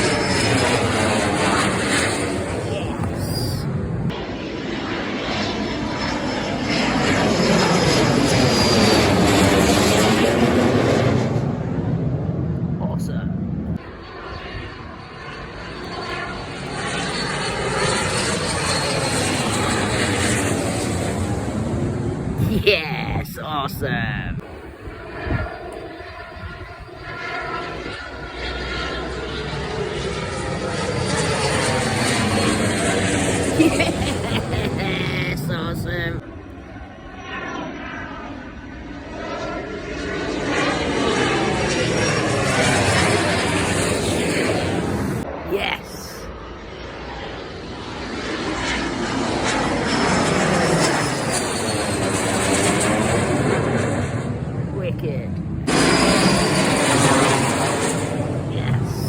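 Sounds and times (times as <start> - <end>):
aircraft engine flying past: 0.0 - 59.0.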